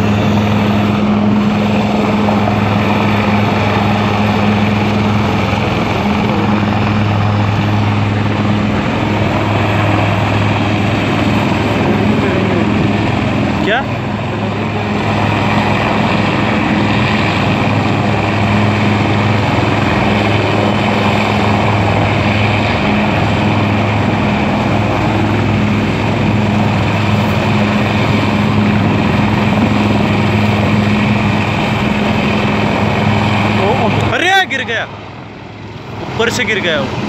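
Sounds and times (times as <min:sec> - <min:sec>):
helicopter rotor and engine drone: 0:00.0 - 0:37.0.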